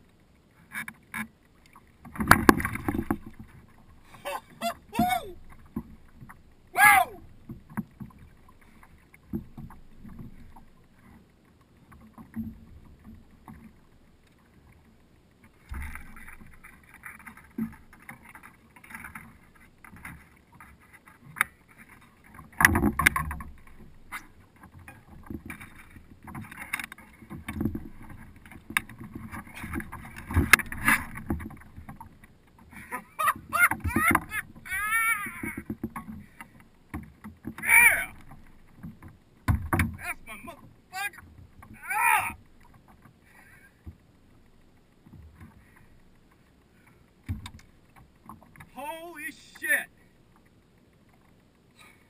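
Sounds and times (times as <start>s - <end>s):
water splashing: 0.6s - 52.0s.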